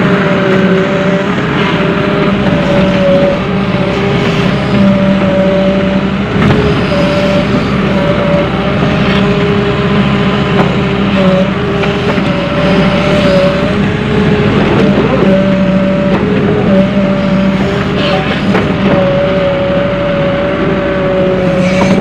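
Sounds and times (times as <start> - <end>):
diesel engine under load: 0.0 - 22.0
hydraulic whine: 0.0 - 22.0.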